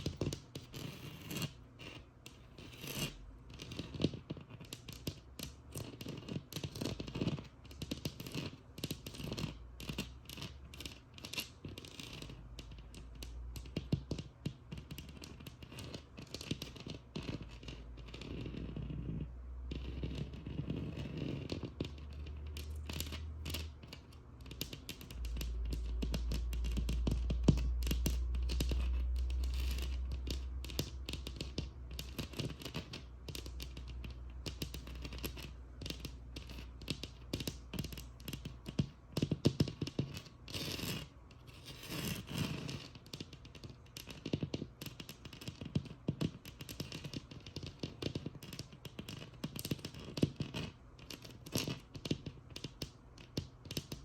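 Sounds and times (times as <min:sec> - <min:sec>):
scratching and tapping on wall: 0:00.0 - 0:54.0.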